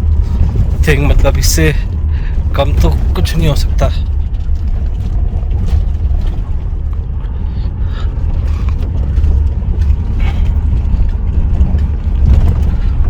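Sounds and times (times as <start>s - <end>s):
cabin rattles and creaks: 0.0s - 13.0s
tyres rumbling on rocky track: 0.0s - 13.0s.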